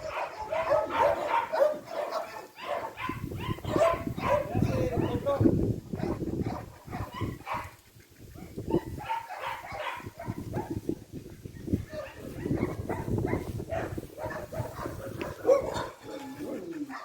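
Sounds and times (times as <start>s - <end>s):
dogs barking and yelping: 0.0s - 11.0s, 11.6s - 17.0s.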